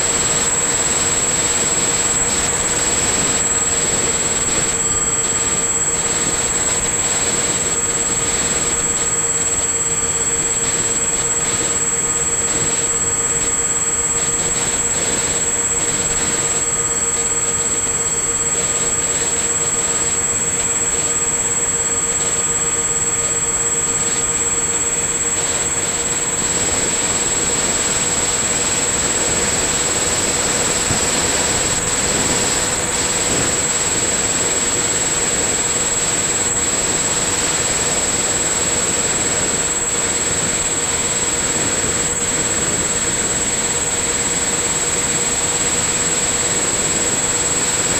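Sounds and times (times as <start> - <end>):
electric motor and propeller whine: 0.0 - 47.9.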